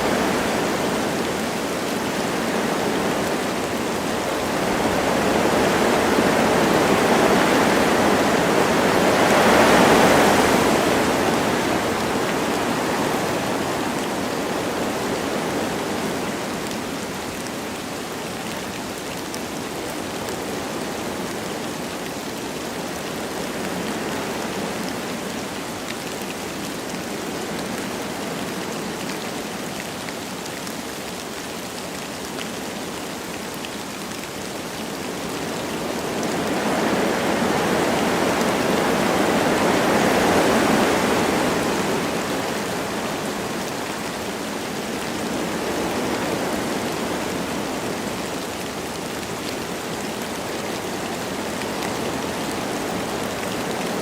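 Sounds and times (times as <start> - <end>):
light rain falling: 0.0 - 54.0
wind blowing through trees: 0.0 - 54.0.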